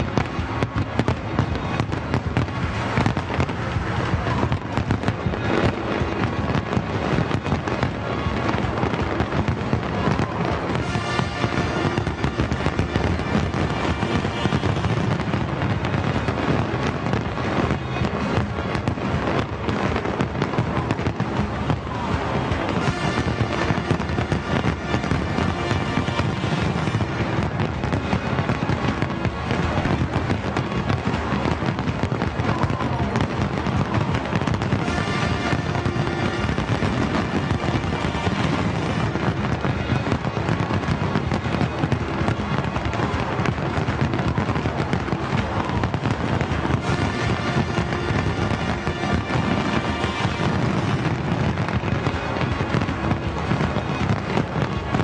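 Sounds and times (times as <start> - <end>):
music playing: 0.0 - 30.0, 34.1 - 43.8, 46.3 - 54.0
fireworks bangs and crackling: 0.0 - 55.0.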